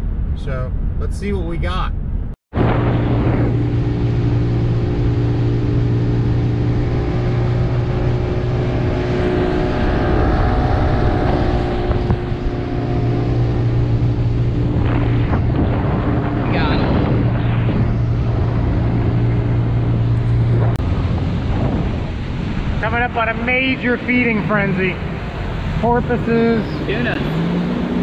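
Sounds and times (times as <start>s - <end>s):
outboard engine running: 2.5s - 28.0s
wind and water rushing: 2.5s - 28.0s.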